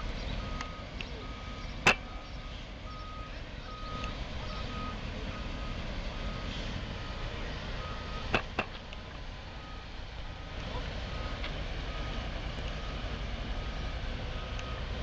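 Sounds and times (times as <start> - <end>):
diesel engine running: 0.0 - 15.0
reversing alarm beeping: 0.3 - 8.7, 9.6 - 10.0, 11.1 - 15.0.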